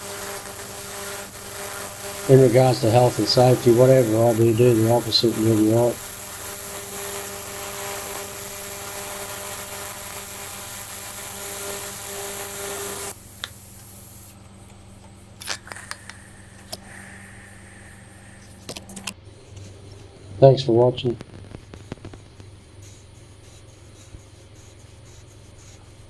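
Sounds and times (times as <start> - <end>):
welding arc buzzing: 0.0 - 24.3.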